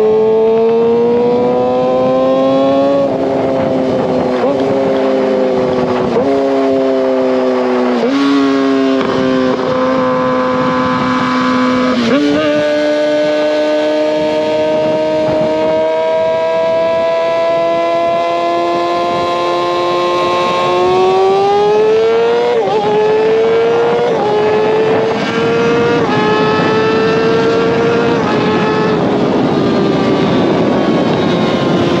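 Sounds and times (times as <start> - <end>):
motorcycle engine shifting gears: 0.0 - 32.0.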